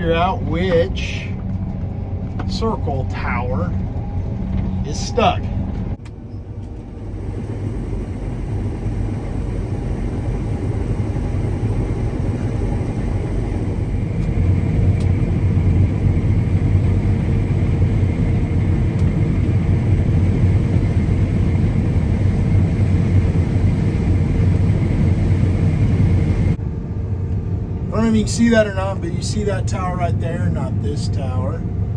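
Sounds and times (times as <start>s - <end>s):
combine harvester engine rumble: 0.0s - 31.9s
constant whine: 0.0s - 31.9s.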